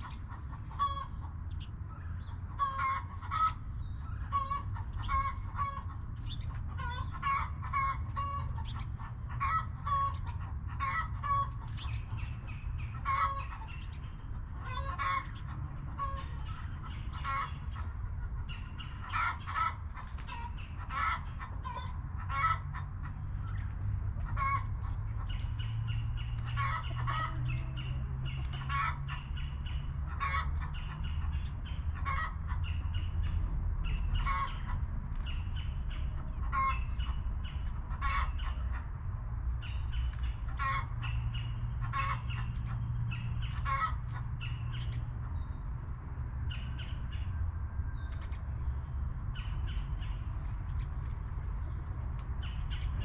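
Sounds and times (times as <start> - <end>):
hens clucking: 0.0 - 47.4
steady low rumble: 0.0 - 53.0.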